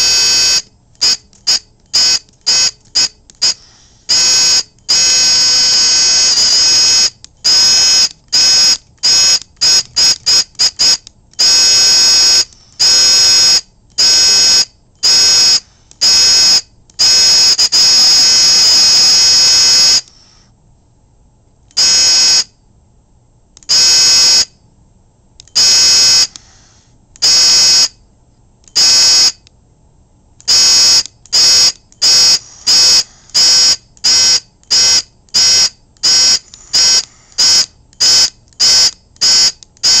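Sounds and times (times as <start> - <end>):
electric alarm buzzer beeping: 0.0 - 20.2, 21.7 - 22.6, 23.7 - 24.6, 25.5 - 26.5, 27.2 - 28.0, 28.7 - 29.4, 30.5 - 40.0.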